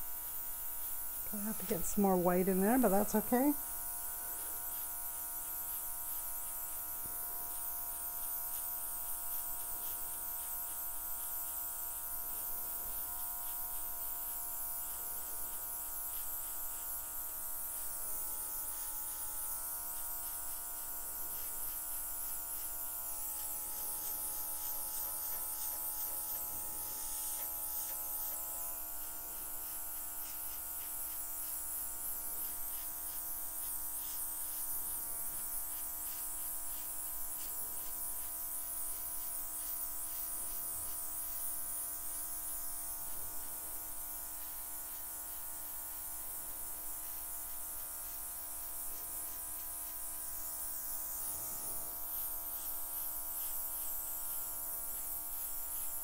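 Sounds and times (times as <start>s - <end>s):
airbrush motor buzzing: 0.0s - 56.0s.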